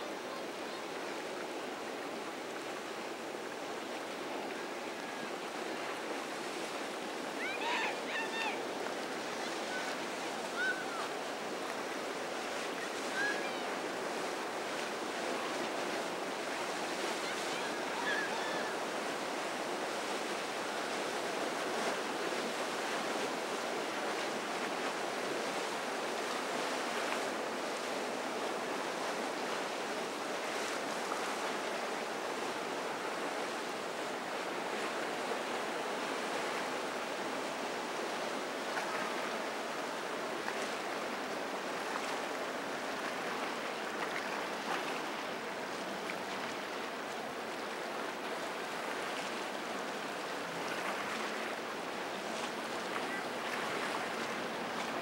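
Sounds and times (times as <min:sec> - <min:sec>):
waves and wake washing: 0:00.0 - 0:55.0
wind: 0:00.0 - 0:55.0.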